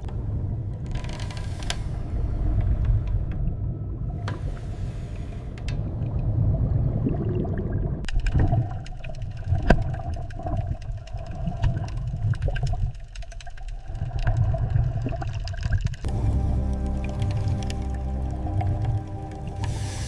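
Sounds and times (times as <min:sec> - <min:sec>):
underwater rumble: 0:00.0 - 0:20.0.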